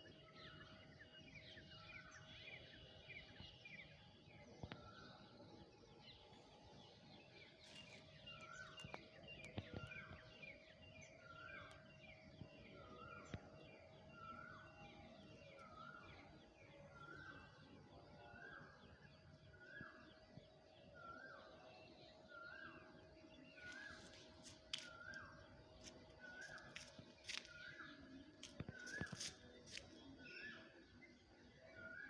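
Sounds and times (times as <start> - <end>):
faint bird chirps: 4.6 - 32.0.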